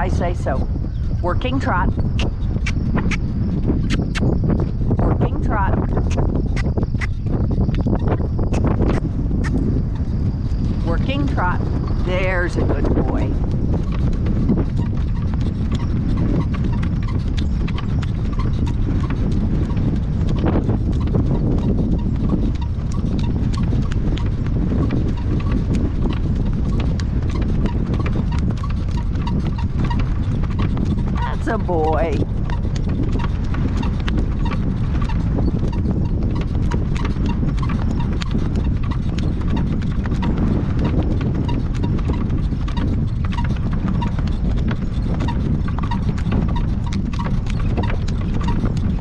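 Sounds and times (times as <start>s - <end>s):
constant low rumble: 0.0s - 49.0s
horse hooves clip-clopping: 0.0s - 49.0s.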